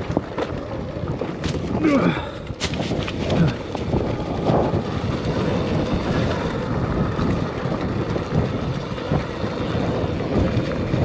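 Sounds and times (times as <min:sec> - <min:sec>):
bike tyres rumbling over dirt: 0:00.0 - 0:11.0
wind buffeting microphone: 0:00.0 - 0:11.0.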